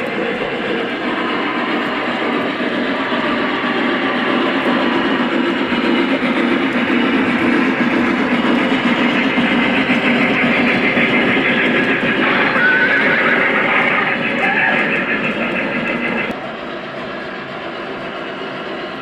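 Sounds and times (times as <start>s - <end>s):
model trains running on track: 0.0s - 19.0s.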